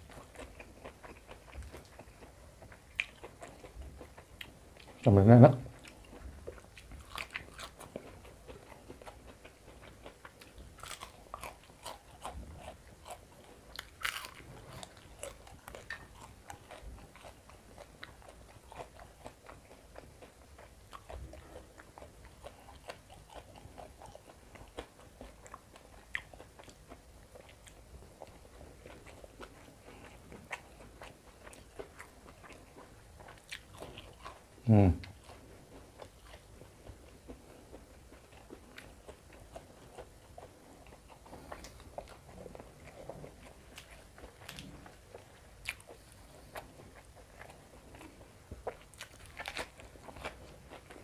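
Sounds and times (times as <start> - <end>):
person chewing crisp food: 0.0 - 51.0.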